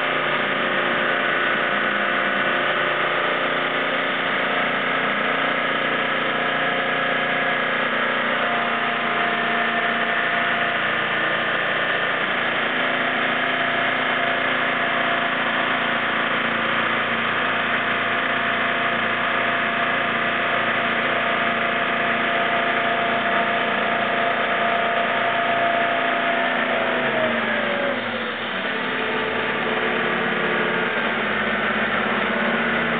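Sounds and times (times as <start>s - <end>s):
diesel boat engine running: 0.0s - 32.9s.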